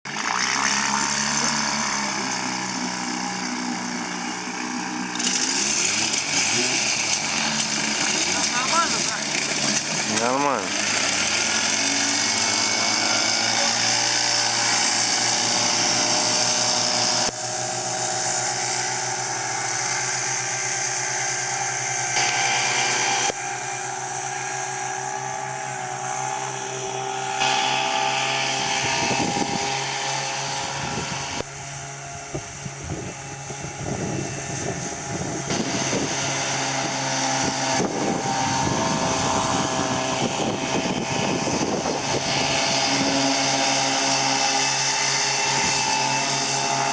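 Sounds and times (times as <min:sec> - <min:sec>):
outboard motor running: 0:00.0 - 0:46.9.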